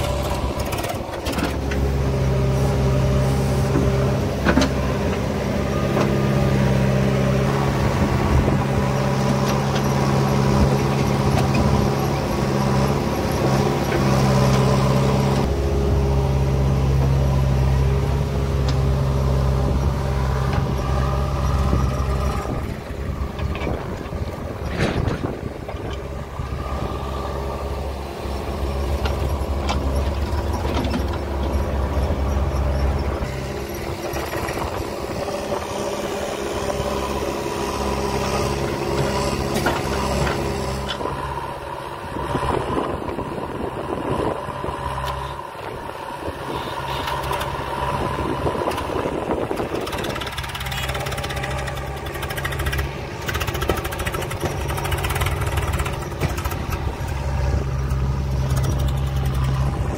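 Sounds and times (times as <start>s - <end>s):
backhoe digging soil: 0.0s - 59.9s
diesel engines running: 0.0s - 59.9s.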